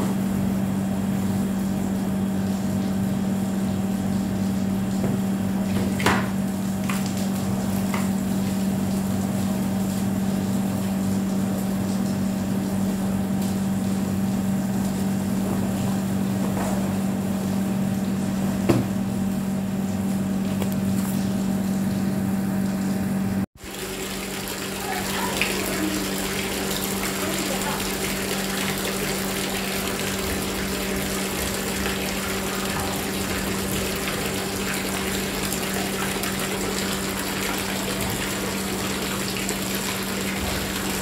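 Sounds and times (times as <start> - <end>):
water pump motor humming: 0.0 - 41.0.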